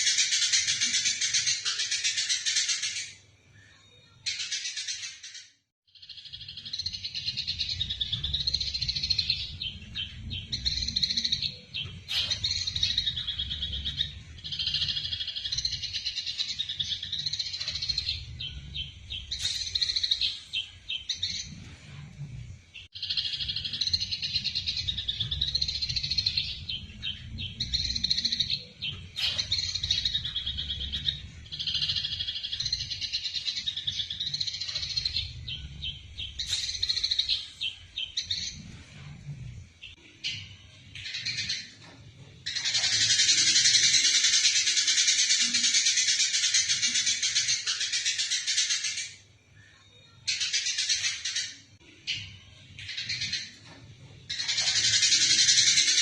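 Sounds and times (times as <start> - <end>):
sparrows chattering: 0.0 - 3.2, 4.3 - 22.1, 22.8 - 41.8, 42.4 - 49.3, 50.2 - 56.0.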